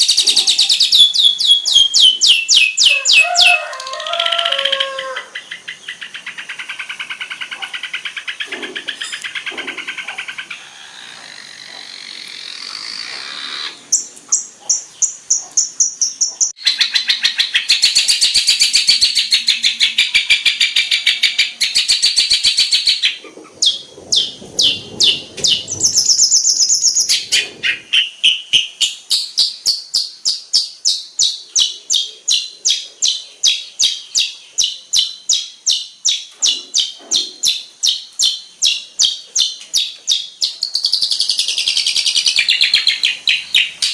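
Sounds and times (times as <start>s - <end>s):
sharp repeated bird notes: 0.0s - 43.9s
songbird chirps and trills: 0.0s - 43.9s.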